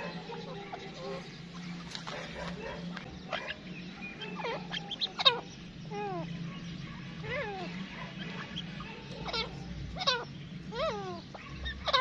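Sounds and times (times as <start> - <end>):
francolins calling: 0.0 - 12.0
steady low hum: 0.0 - 12.0.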